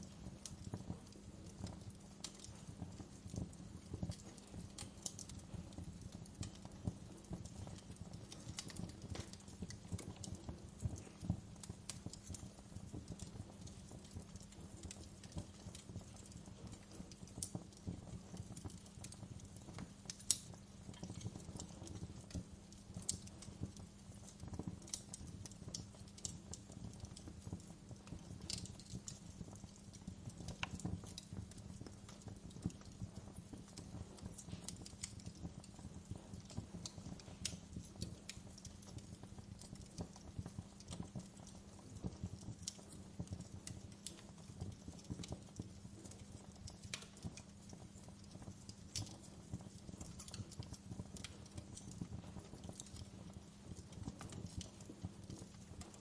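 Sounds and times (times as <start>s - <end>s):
faint steady hiss: 0.0s - 56.0s
wood fire crackling and popping: 0.0s - 56.0s.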